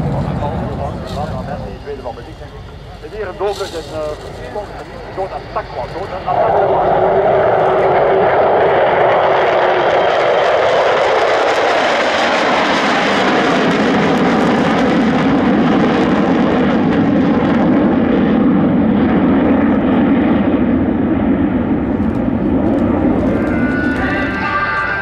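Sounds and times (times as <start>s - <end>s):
fighter jets passing overhead: 0.0s - 25.0s.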